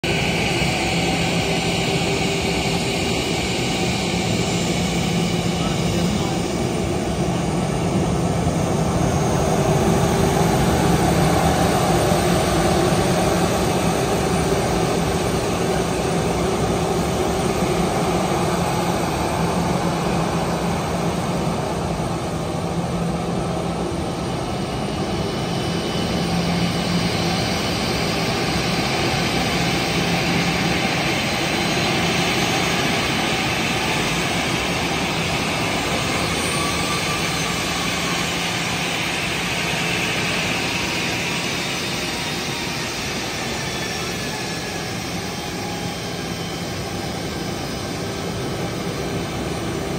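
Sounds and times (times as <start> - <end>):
jet engines taxiing: 0.0 - 49.9.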